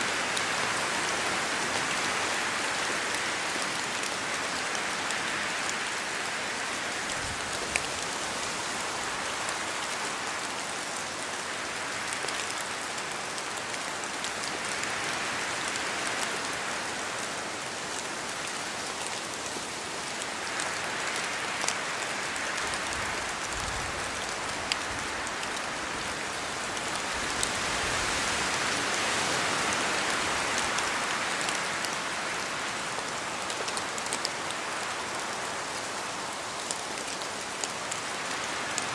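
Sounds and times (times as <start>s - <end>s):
rain in a forest: 0.0s - 38.9s
wind: 0.0s - 38.9s.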